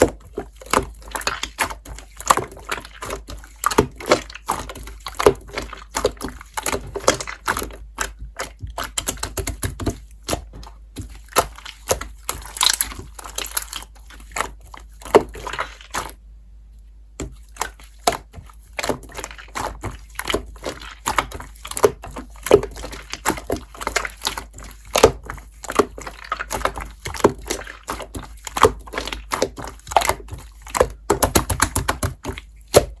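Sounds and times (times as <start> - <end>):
slime squished by hand: 0.0 - 16.2, 17.2 - 33.0.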